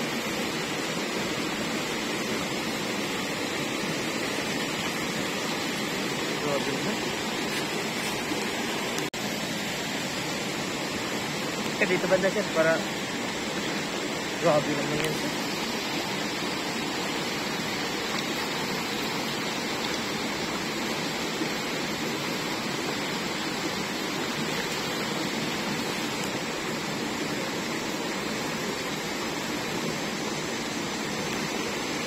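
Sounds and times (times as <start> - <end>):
flowing river water: 0.0 - 32.0.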